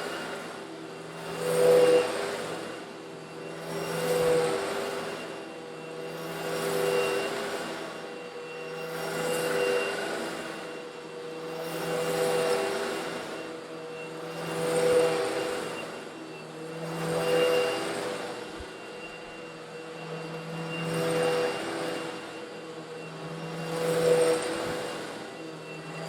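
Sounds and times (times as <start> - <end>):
grit rushing through vacuum: 0.0 - 26.0
vacuum cleaner motor running: 0.0 - 26.0.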